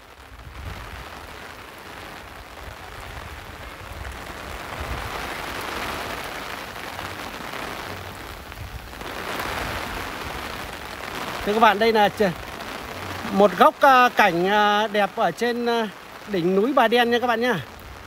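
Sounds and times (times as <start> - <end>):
heavy rain on paving and foliage: 0.0 - 18.0.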